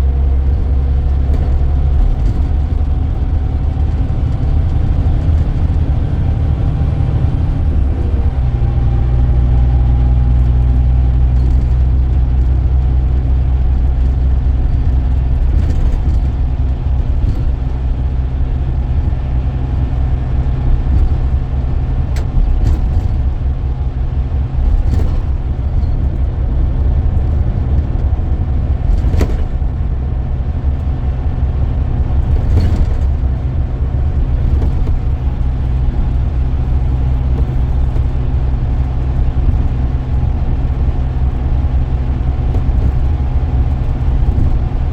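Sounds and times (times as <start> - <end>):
coach engine droning: 0.0 - 44.9.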